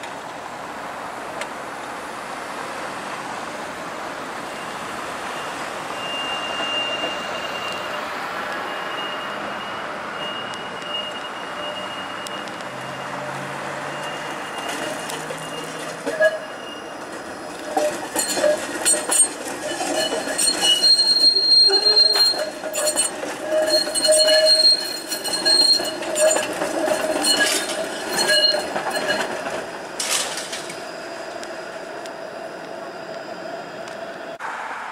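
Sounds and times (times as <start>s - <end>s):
streetcar running noise: 0.0s - 34.9s
steel wheels squealing on rails: 4.2s - 34.4s.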